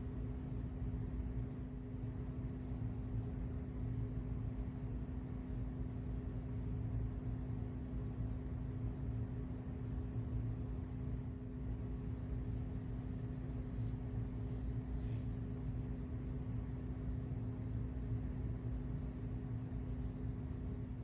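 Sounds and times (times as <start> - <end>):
steady low hum with tone: 0.0 - 21.0.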